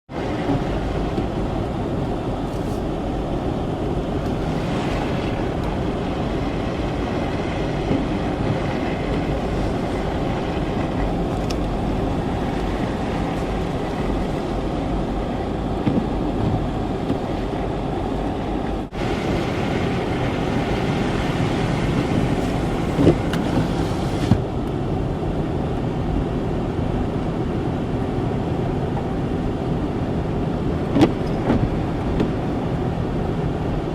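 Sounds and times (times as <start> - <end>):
car driving on snowy road: 0.1 - 33.9.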